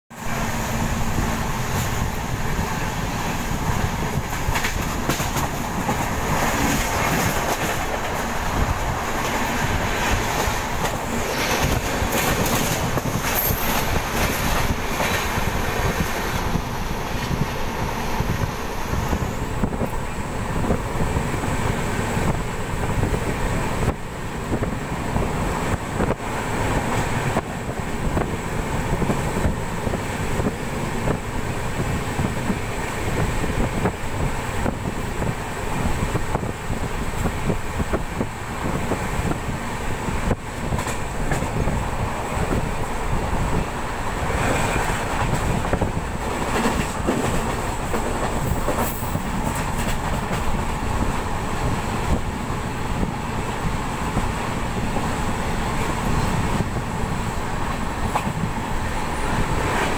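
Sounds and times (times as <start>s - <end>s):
faint rail clacks: 0.1s - 21.2s, 22.2s - 59.9s
train wheels rumbling on rails: 0.1s - 59.9s.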